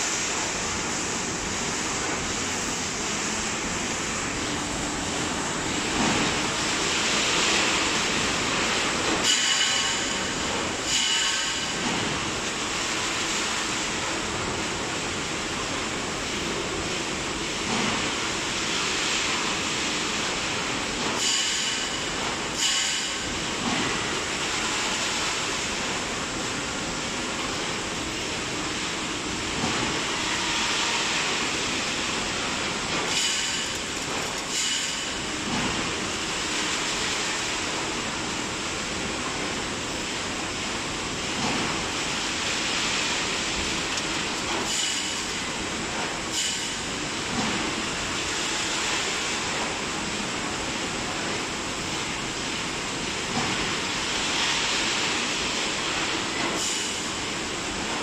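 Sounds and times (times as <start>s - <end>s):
welding machine hiss and hum: 0.0s - 58.0s.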